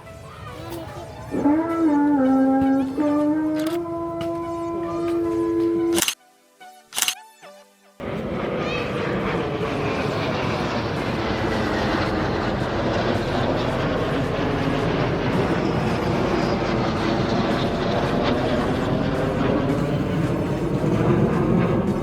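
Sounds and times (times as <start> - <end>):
military aircraft engine: 0.0 - 6.2, 8.0 - 22.0.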